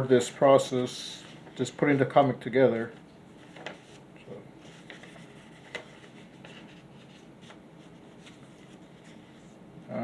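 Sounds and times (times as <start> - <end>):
paper sheets rustling: 0.5 - 4.0, 4.6 - 9.5.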